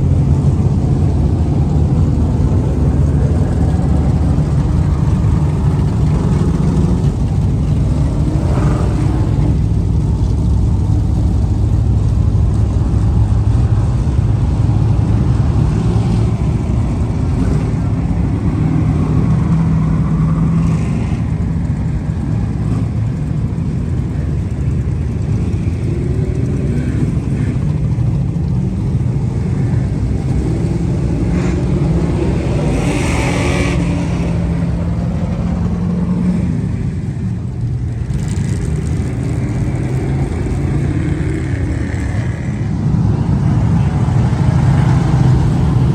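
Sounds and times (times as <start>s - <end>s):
car engine running: 0.0s - 45.9s.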